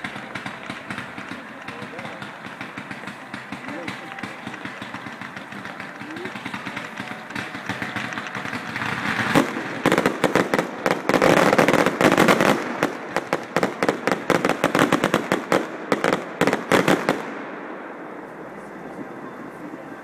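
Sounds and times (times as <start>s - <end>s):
fireworks banging and crackling: 0.0s - 20.0s.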